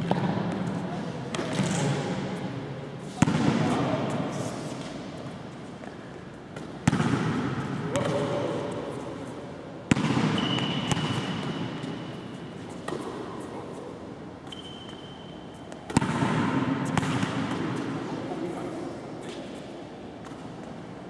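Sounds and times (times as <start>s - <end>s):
ball impacts echoing in gym: 0.0s - 18.6s, 19.2s - 21.0s.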